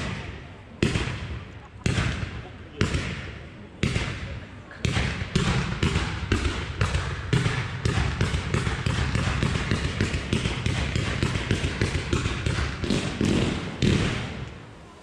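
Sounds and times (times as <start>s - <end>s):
firework battery firing rapid shots: 0.0s - 14.5s.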